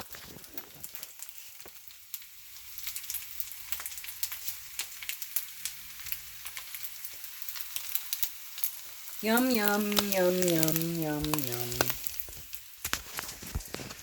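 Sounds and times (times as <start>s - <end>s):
stir-fry sizzling in a pan: 0.0s - 14.0s.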